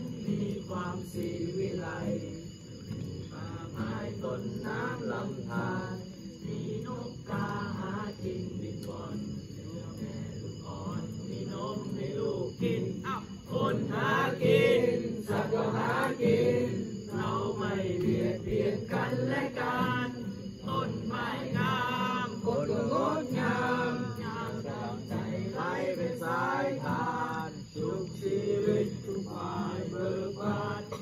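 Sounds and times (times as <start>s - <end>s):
voices chanting: 0.0s - 31.0s.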